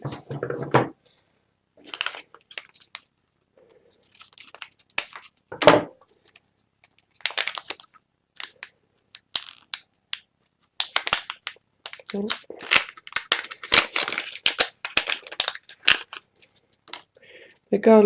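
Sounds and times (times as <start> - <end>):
plastic packaging crinkling: 1.8 - 17.7.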